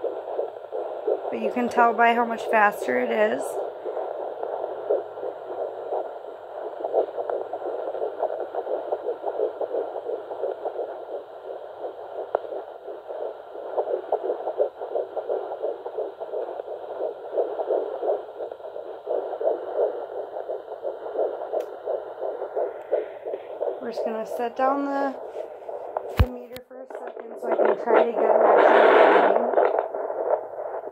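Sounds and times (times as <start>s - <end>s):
fetal heartbeat on doppler: 0.0s - 30.9s.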